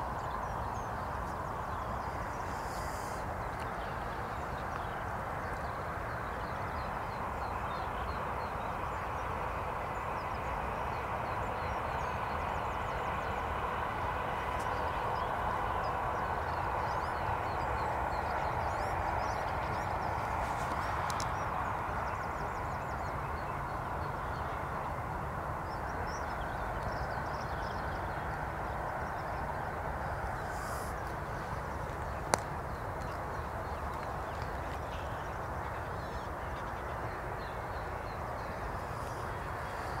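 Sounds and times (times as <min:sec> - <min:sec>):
outdoor background rush: 0:00.0 - 0:40.0.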